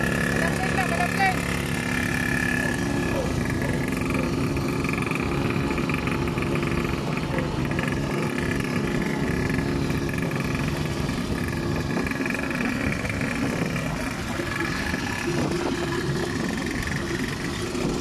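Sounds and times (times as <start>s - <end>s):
small bike engine running: 0.0s - 18.0s.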